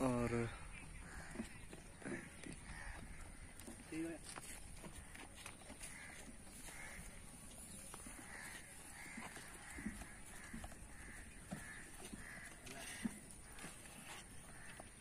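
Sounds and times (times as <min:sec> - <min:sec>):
bird calls: 0:00.0 - 0:15.0
ostriches feeding: 0:00.0 - 0:15.0.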